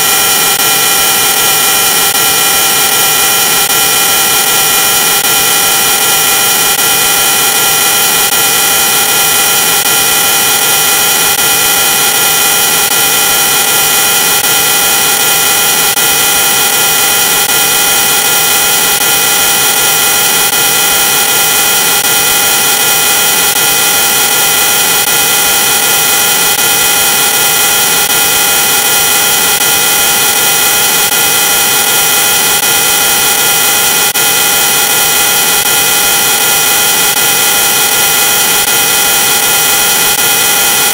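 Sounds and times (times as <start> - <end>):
harsh electronic drone: 0.0 - 40.9.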